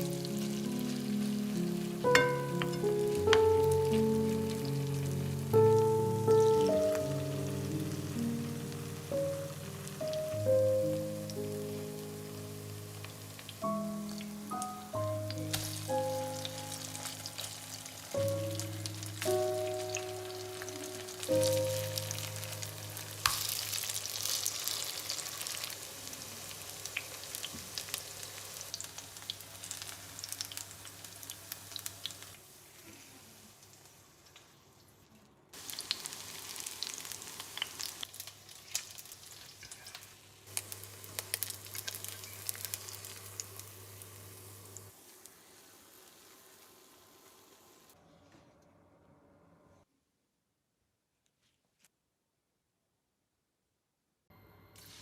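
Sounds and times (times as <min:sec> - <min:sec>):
food sizzling in hot oil: 0:00.0 - 0:34.9, 0:35.6 - 0:48.0, 0:54.8 - 0:55.0.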